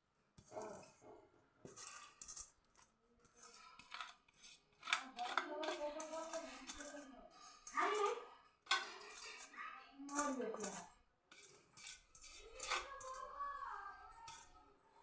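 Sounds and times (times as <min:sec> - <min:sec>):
metal spoon scraping steel pots: 0:01.6 - 0:15.0.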